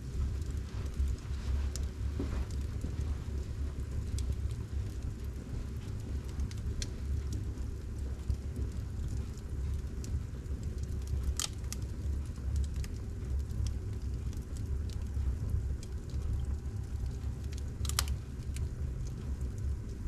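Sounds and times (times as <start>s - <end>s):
fire crackling in fireplace: 0.0s - 20.0s
fire pops: 0.1s - 20.0s.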